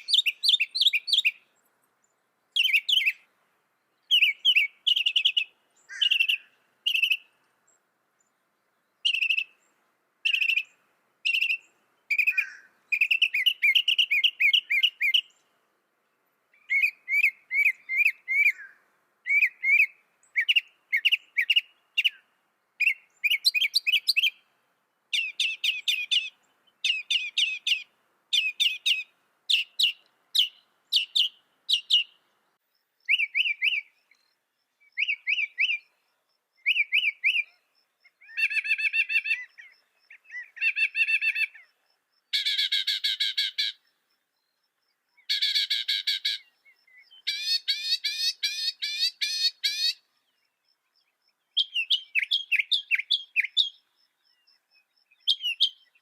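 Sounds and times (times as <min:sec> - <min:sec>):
mockingbird singing: 0:00.0 - 0:03.3, 0:03.9 - 0:07.4, 0:09.0 - 0:15.5, 0:16.5 - 0:24.5, 0:25.1 - 0:56.0.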